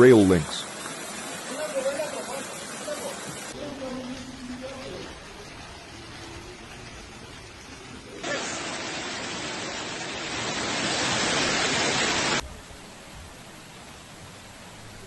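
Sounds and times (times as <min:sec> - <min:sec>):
faint steady hiss: 0:00.0 - 0:15.0
loud rushing water: 0:00.0 - 0:15.0.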